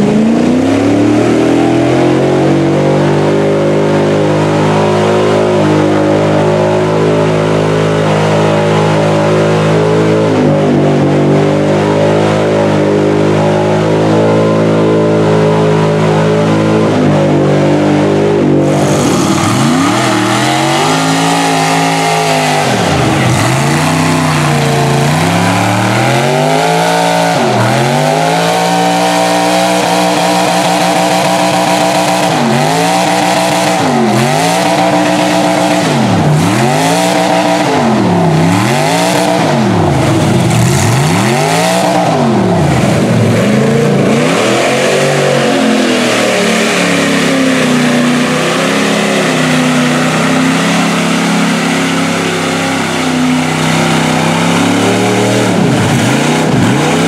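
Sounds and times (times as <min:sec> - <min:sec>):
mud truck engine revving: 0:00.0 - 0:57.0
second truck engine revving: 0:00.0 - 0:57.0.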